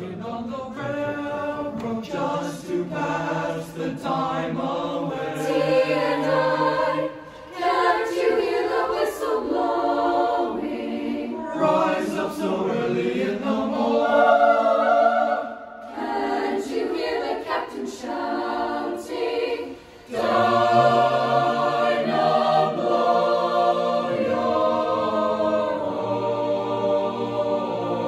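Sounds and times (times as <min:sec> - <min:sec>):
choir singing a cappella: 0:00.0 - 0:28.0.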